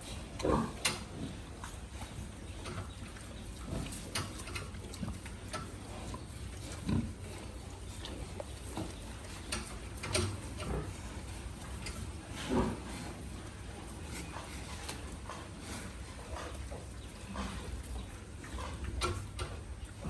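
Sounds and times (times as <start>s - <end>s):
pigs grunting: 0.0s - 20.0s.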